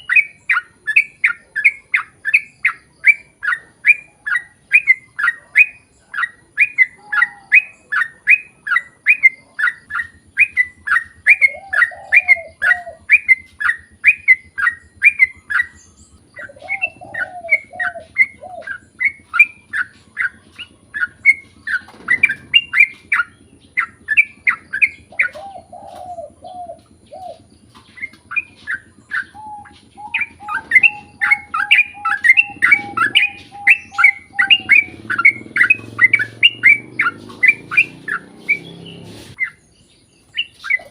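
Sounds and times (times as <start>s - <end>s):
bird singing rapid chirpy notes: 0.0s - 40.9s
soft warbled bird phrases: 0.0s - 40.9s.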